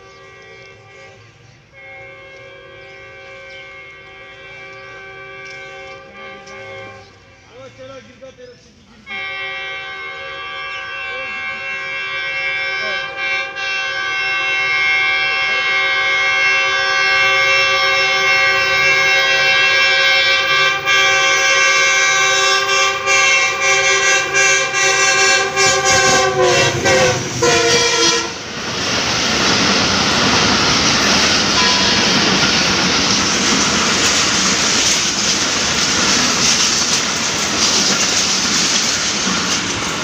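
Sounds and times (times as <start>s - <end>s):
locomotive horn: 0.0s - 7.8s, 9.0s - 28.6s, 30.1s - 35.3s
train wheels on rail: 0.0s - 40.0s.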